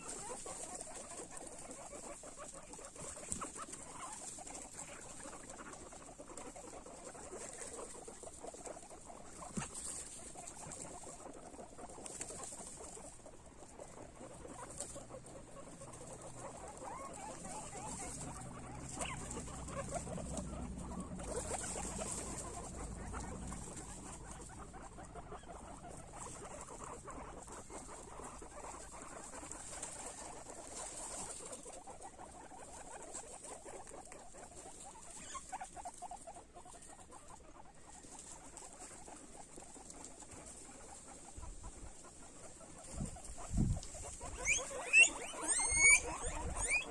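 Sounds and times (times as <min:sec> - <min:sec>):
guinea pigs crunching food: 0:00.0 - 0:46.9.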